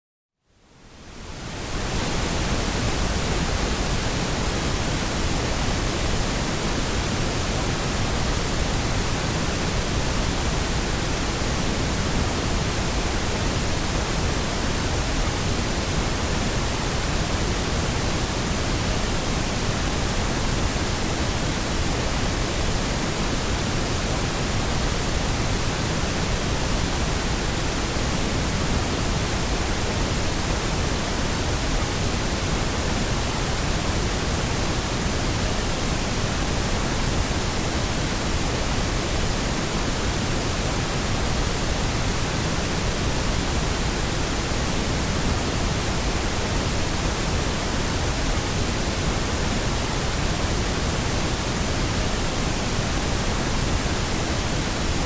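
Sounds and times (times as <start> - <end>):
pink noise hiss: 0.9 - 55.0.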